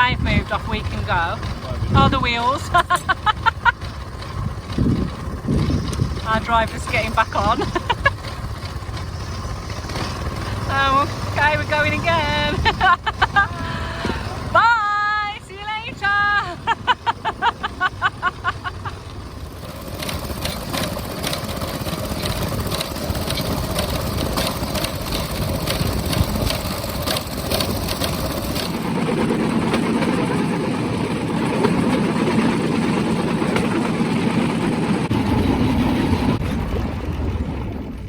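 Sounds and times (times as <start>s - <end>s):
small engine running: 0.0s - 38.0s
wheels clattering over rails: 0.0s - 38.0s.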